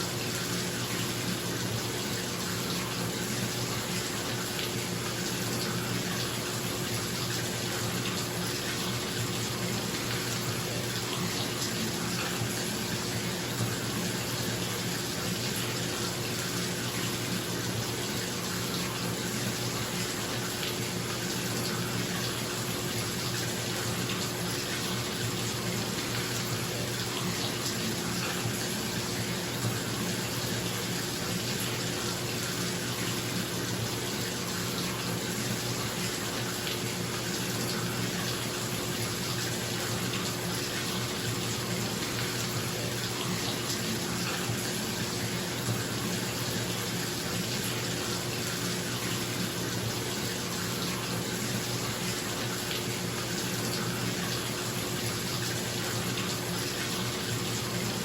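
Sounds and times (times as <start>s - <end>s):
tap water pouring into bathtub: 0.0s - 58.0s.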